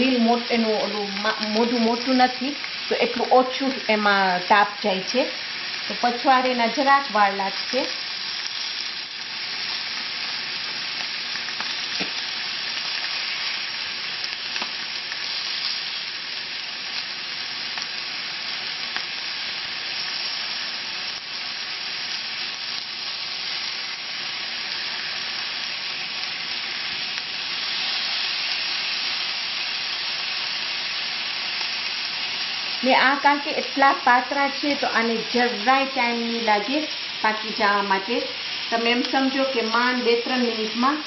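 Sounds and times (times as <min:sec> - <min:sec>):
chicken sizzling on a grill pan: 0:00.0 - 0:41.0.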